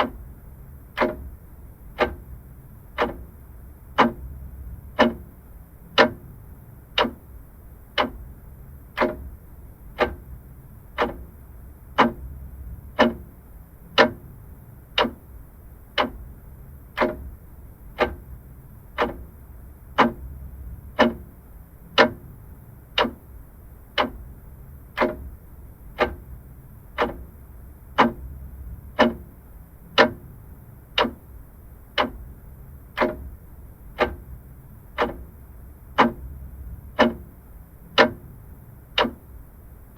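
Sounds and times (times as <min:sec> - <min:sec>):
faint low hum: 0:00.0 - 0:39.9
mechanical clock ticking: 0:00.0 - 0:39.9.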